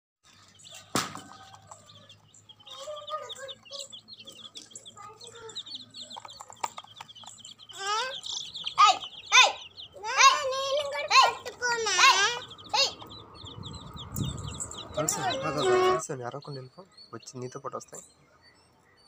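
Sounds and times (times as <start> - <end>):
baby chicks peeping: 0.2 - 19.0.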